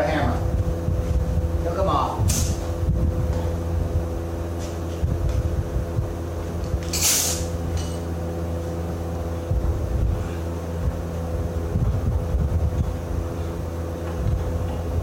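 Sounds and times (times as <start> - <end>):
engine humming: 0.0 - 15.0
wind on microphone: 0.3 - 7.7, 9.3 - 15.0.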